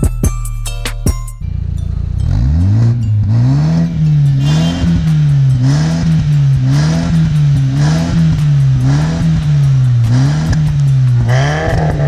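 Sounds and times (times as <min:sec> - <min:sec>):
background music with a beat: 0:00.0 - 0:12.0
car engine idling and revving: 0:00.0 - 0:12.0.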